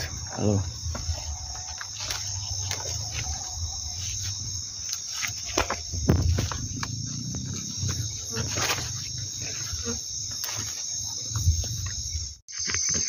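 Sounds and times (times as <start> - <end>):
footsteps through vegetation: 0.0 - 13.0
night insects chorus: 0.0 - 13.0
rustling of tall grass: 0.8 - 11.9.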